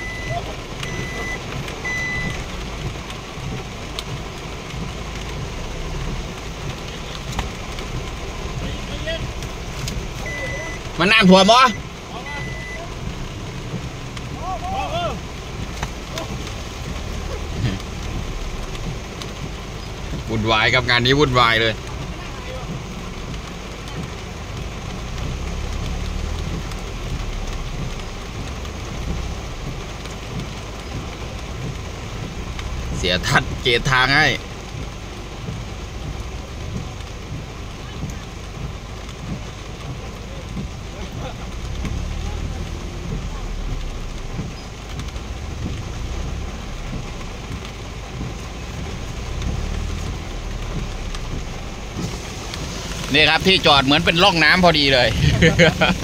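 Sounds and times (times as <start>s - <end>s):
heavy rain on vehicle roof: 0.0s - 56.0s
low engine rumble: 0.0s - 56.0s.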